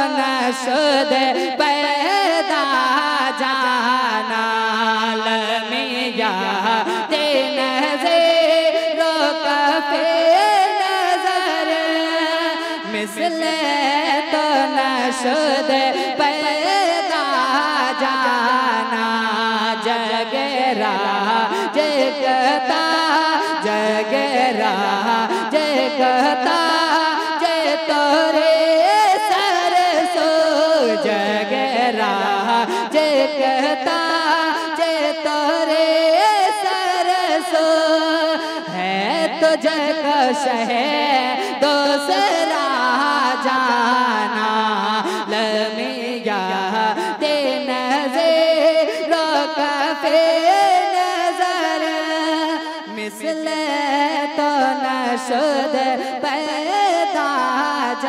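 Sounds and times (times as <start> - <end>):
man singing into a microphone: 0.0 - 58.0.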